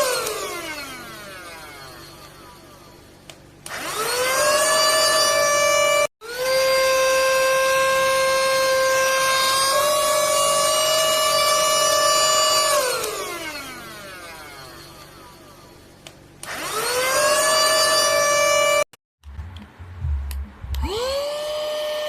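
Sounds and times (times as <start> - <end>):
handheld vacuum cleaner motor whine: 0.0 - 18.9, 20.8 - 22.0.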